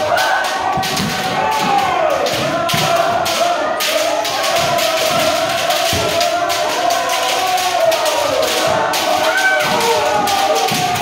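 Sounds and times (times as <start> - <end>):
bamboo swords clacking: 0.0 - 11.0
crowd shouting together: 0.0 - 11.0.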